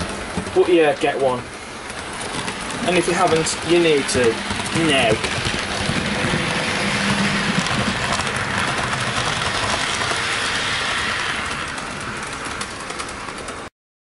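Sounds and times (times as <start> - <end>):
model train whirring and rattling: 0.0 - 13.7.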